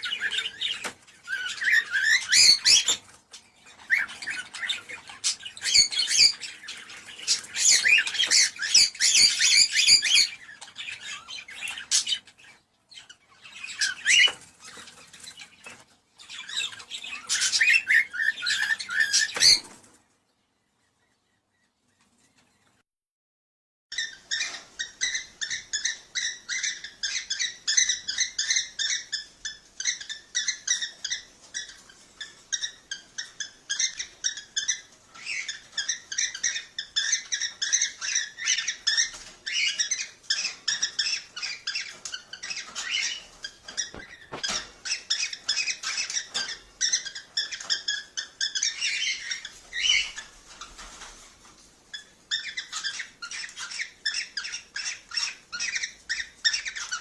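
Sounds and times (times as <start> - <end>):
cockatiels chirping: 0.0 - 20.0, 23.9 - 57.0.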